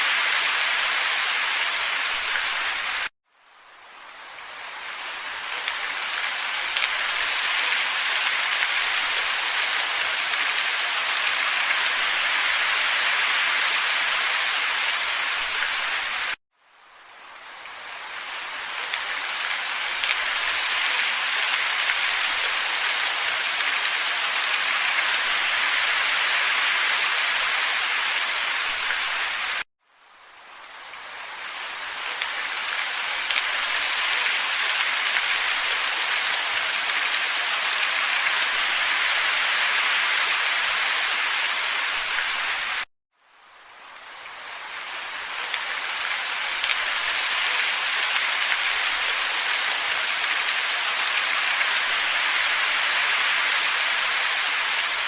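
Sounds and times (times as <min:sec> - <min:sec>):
nature ambience hiss: 0:00.0 - 0:55.0.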